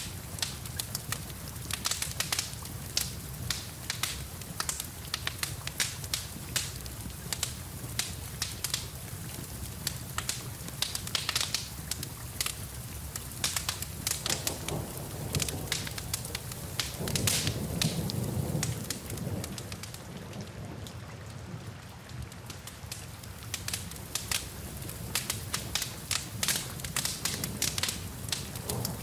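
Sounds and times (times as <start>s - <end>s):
wood fire crackling and popping: 0.0s - 21.0s, 21.7s - 29.0s
steady rain: 0.0s - 29.0s.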